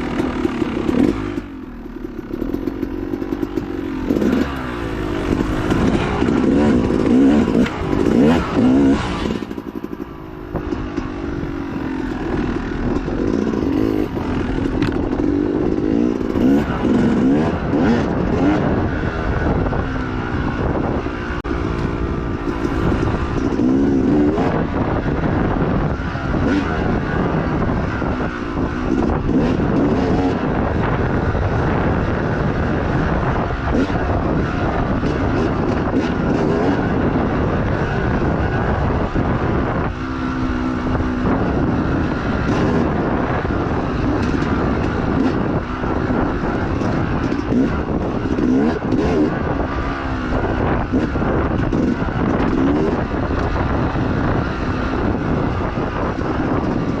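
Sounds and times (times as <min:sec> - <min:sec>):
dirt bike engine revving: 0:00.0 - 0:57.0
wind noise: 0:00.0 - 0:57.0.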